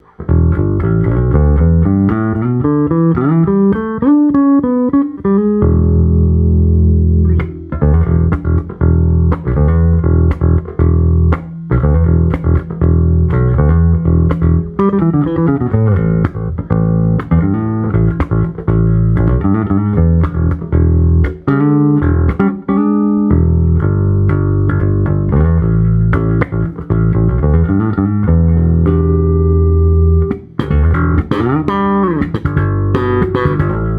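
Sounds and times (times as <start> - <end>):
solo electric bass playing: 0.0 - 33.9.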